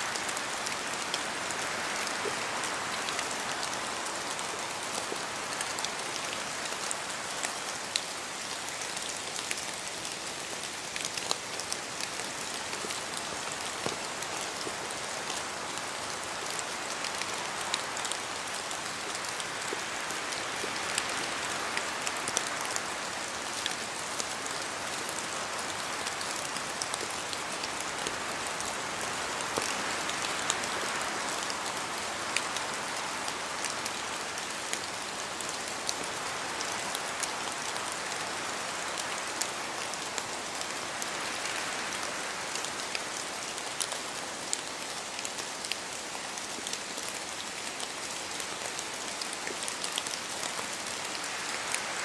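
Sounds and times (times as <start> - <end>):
rain falling through trees: 0.0 - 52.0.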